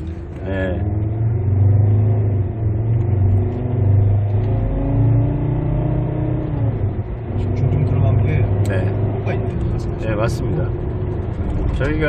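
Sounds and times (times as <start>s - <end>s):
road noise inside car: 0.0s - 12.0s.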